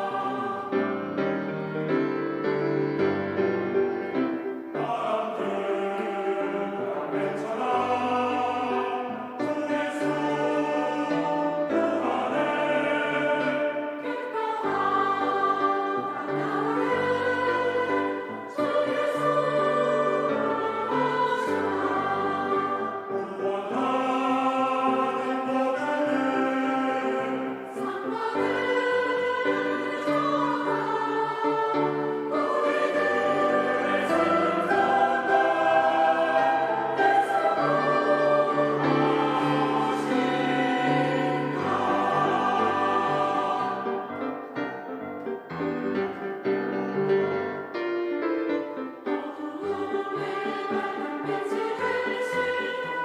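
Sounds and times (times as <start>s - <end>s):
choir singing a hymn: 0.0s - 45.9s, 47.5s - 53.0s
piano accompaniment: 0.0s - 53.0s.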